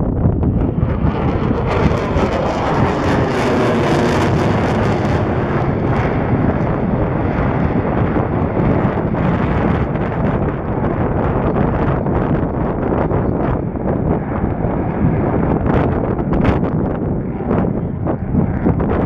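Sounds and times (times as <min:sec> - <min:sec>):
jet engine roar: 0:00.0 - 0:19.0
wind buffeting microphone: 0:00.0 - 0:19.0.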